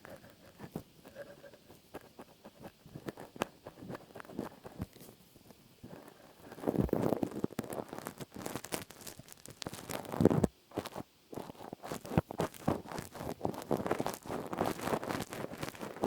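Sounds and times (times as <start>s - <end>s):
crackling and rustling handling: 0.0s - 16.0s.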